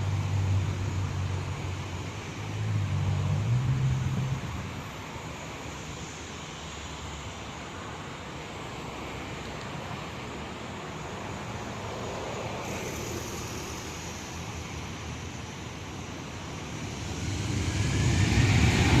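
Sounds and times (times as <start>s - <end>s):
jet engines at taxi power: 0.0s - 19.0s.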